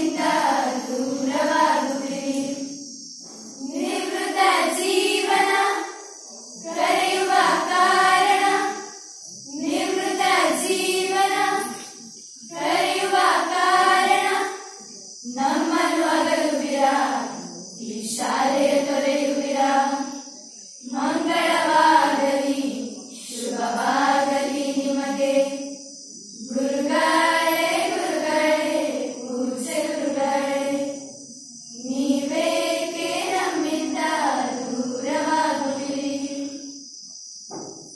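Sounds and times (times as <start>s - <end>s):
girls singing together: 0.0s - 36.8s.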